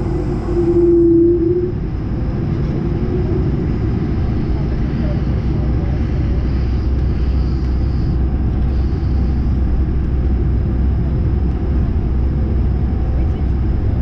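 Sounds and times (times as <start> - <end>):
jet engines idling rumble: 0.0 - 14.0.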